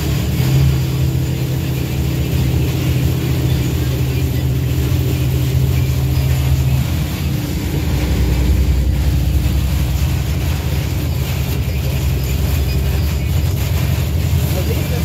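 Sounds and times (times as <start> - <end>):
low hum: 0.0 - 15.0
vehicle engine and road drone: 0.0 - 15.0
wet tyres and rain hiss: 0.0 - 15.0.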